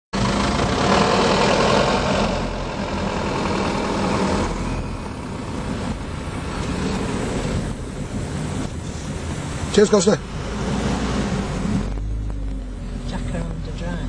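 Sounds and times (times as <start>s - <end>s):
car engine running: 0.1s - 14.0s
road noise: 0.1s - 14.0s.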